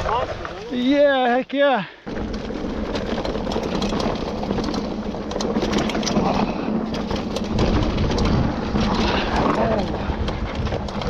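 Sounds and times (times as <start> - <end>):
bike rattling over bumps: 0.0 - 11.0
bike tyres rumbling on dirt: 0.0 - 11.0.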